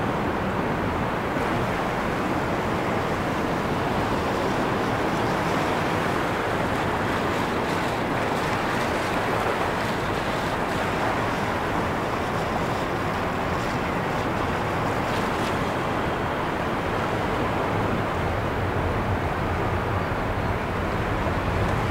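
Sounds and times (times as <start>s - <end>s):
waves breaking: 0.0s - 19.6s
rushing water: 0.0s - 21.9s.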